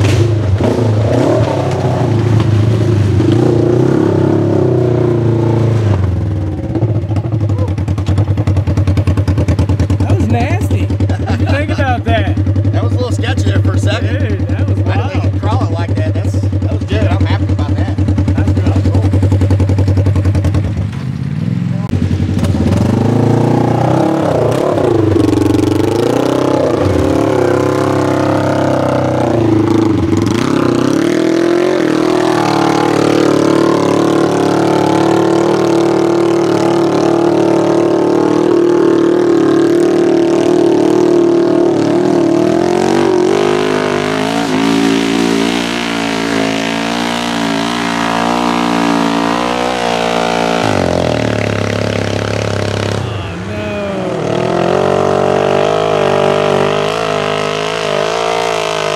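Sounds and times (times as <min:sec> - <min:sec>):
engine revving under load: 0:00.0 - 0:58.9.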